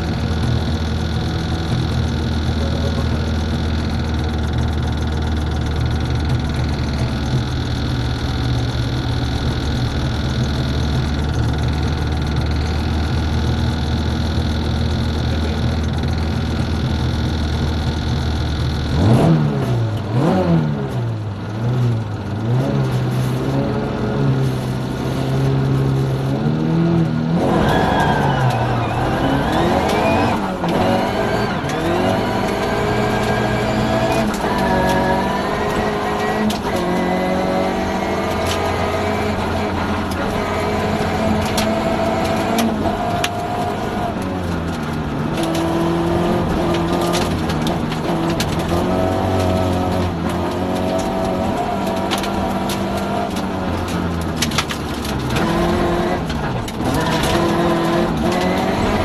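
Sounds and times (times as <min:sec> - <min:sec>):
rally car engine accelerating: 0:00.0 - 0:59.0.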